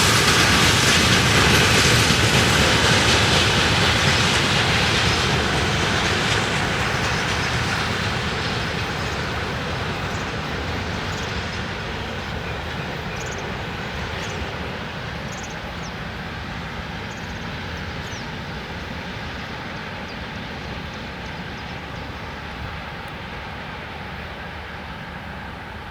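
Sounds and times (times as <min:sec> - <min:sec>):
freight train rolling on rails: 0:00.0 - 0:25.9.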